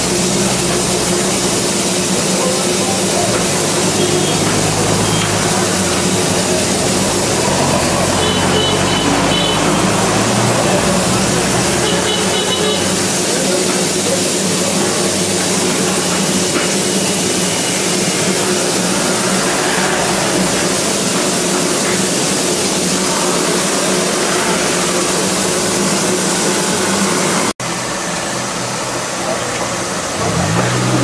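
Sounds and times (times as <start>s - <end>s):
steam hissing from locomotives: 0.0s - 31.0s.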